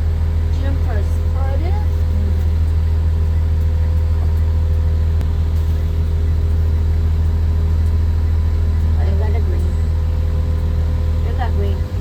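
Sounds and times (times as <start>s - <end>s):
bus diesel engine humming: 0.0s - 12.0s
faint steady tones: 0.0s - 12.0s.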